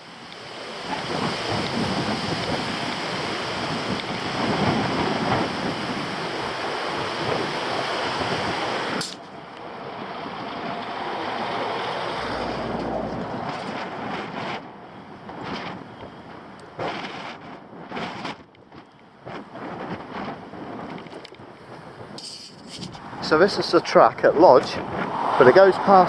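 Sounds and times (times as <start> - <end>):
wind buffeting microphone: 0.1 - 26.0.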